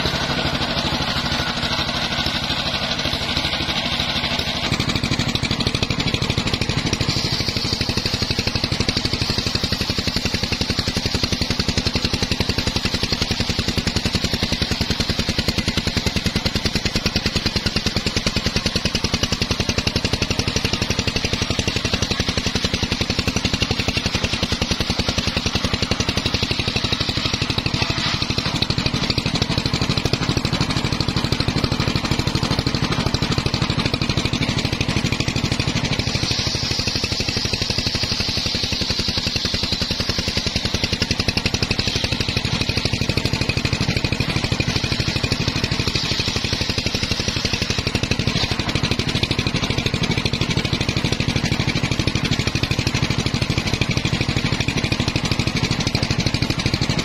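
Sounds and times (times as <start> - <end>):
circular saw ripping a log: 0.0 - 51.8
engine hum: 0.0 - 57.0.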